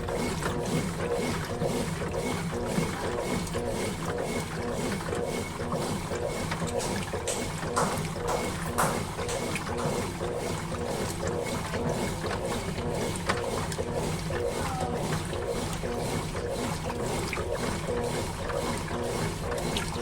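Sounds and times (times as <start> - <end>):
washing machine motor humming: 0.0 - 20.0
water churning: 0.0 - 20.0.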